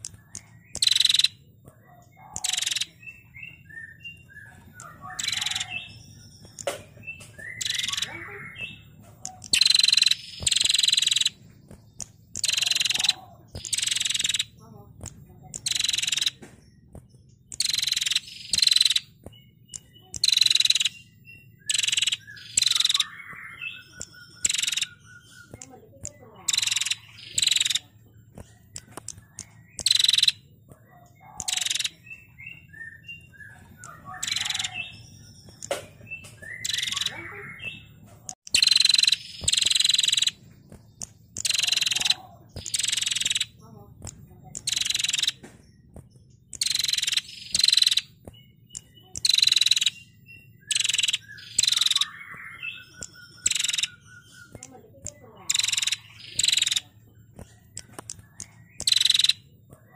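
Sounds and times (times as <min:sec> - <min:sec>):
bird chattering trill: 0:00.0 - 0:59.9
faint bird chirps: 0:00.0 - 0:59.9.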